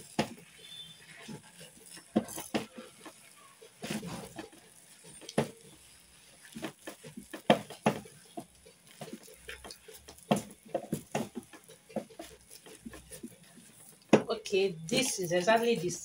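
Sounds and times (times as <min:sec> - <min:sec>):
wooden spatula scraping metal pot: 0:00.0 - 0:16.0.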